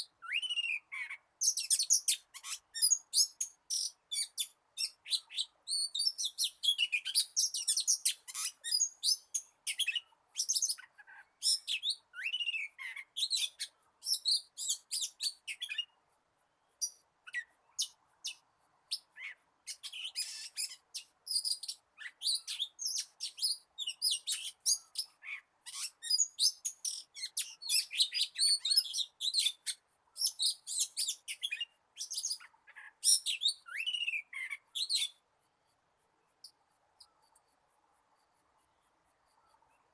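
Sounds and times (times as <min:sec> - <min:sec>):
bird song with chirps and whistles: 0:00.0 - 0:16.0, 0:16.7 - 0:35.2.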